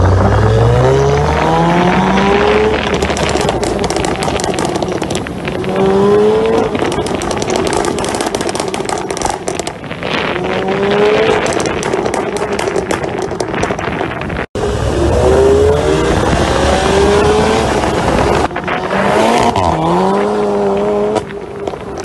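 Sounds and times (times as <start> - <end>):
exhaust crackling pops: 0.0 - 14.6, 15.6 - 22.0
car exhaust accelerating hard: 0.0 - 22.0.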